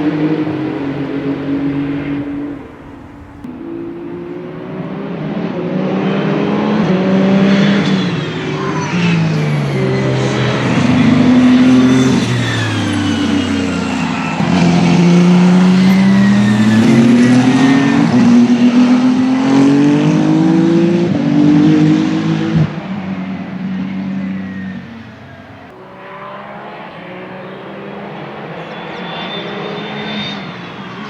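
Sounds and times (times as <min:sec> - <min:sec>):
racing car engines passing: 0:00.0 - 0:31.0.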